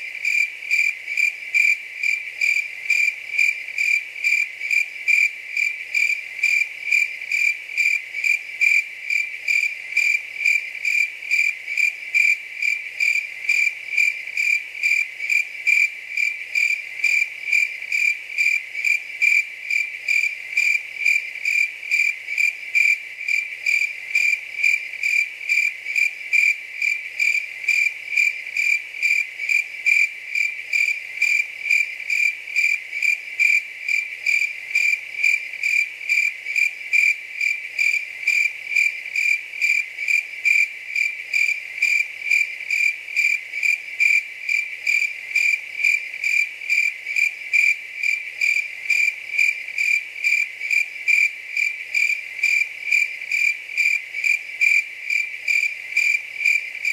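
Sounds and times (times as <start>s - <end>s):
cricket chirping: 0.0s - 56.9s.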